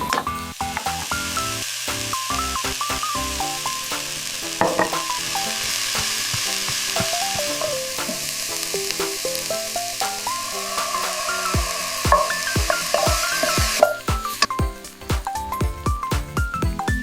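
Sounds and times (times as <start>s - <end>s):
food sizzling in a pan: 0.0s - 15.6s
background music with plucked melody: 0.0s - 17.0s.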